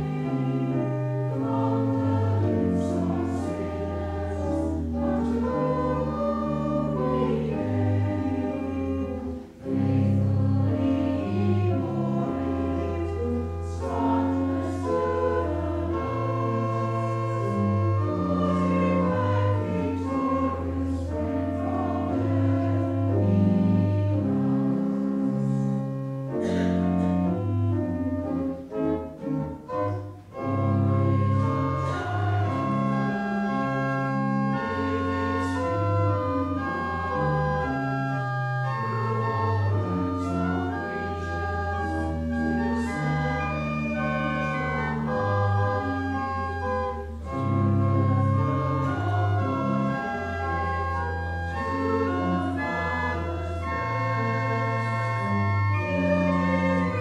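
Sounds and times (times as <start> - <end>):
organ playing held chords: 0.0 - 57.0.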